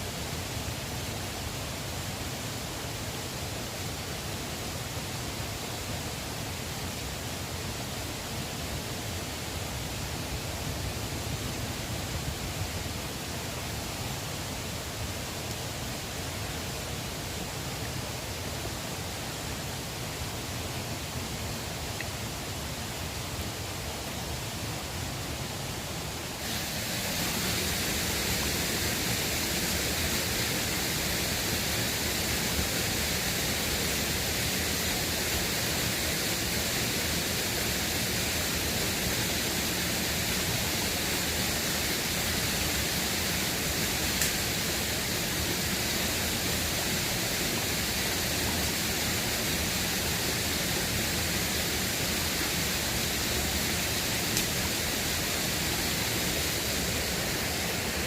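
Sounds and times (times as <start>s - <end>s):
river water rushing: 0.2s - 58.0s.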